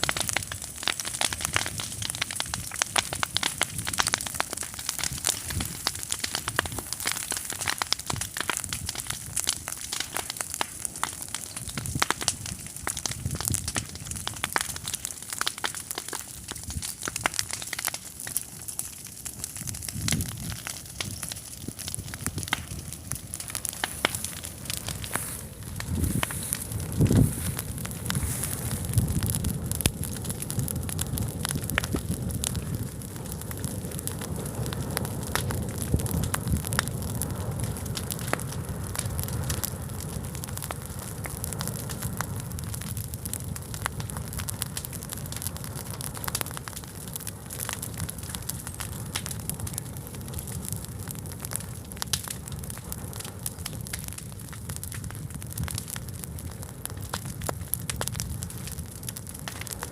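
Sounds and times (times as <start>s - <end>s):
large fire crackling: 0.0s - 59.9s.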